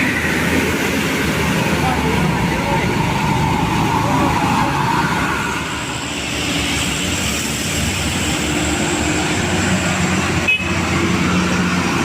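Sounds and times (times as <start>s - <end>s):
truck diesel engine under load: 0.0s - 12.0s.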